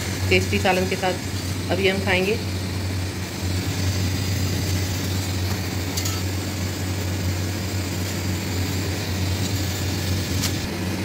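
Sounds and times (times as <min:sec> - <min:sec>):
gas burners humming and hissing: 0:00.0 - 0:11.0.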